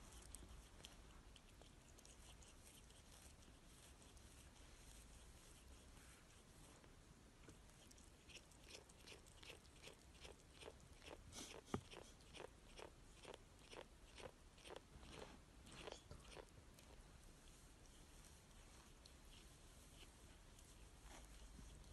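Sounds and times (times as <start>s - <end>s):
cat chewing crunches: 0.0s - 6.5s, 7.6s - 21.9s.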